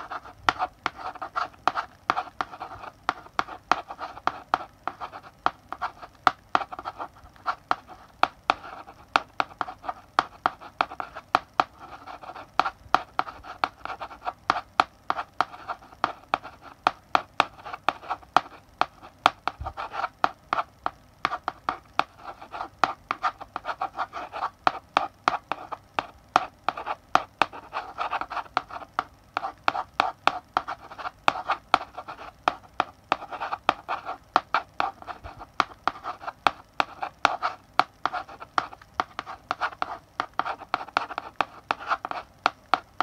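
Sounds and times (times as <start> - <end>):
chalk scratching on blackboard: 0.0 - 42.8
chalk tapping on blackboard: 0.0 - 43.0.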